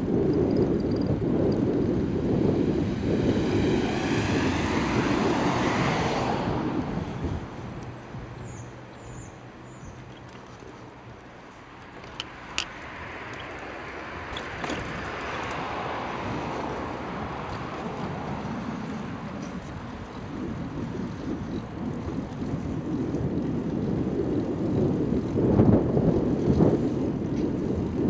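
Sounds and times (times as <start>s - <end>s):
bicycle tyre rumble: 0.0s - 28.0s
wind buffeting microphone: 0.0s - 28.0s.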